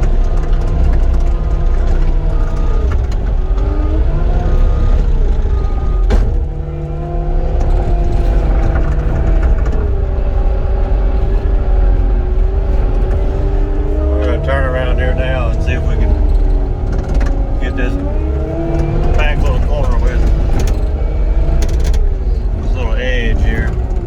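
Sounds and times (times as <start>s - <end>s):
engine running loudly: 0.0s - 24.0s.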